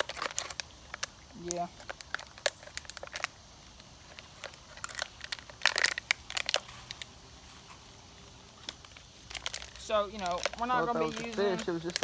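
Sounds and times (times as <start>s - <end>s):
close crinkling and crackling: 0.0s - 12.0s.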